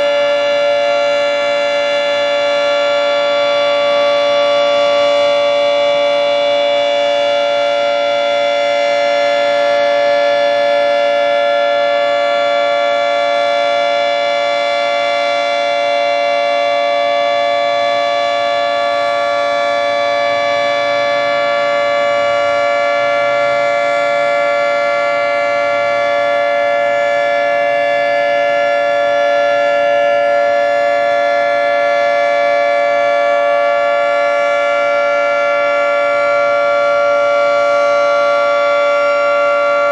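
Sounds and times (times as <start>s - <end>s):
warning siren steady chord: 0.0s - 39.9s.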